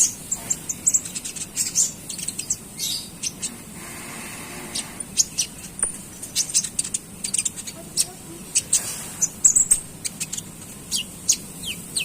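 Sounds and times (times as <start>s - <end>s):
songbird chirping and twittering: 0.0s - 12.0s.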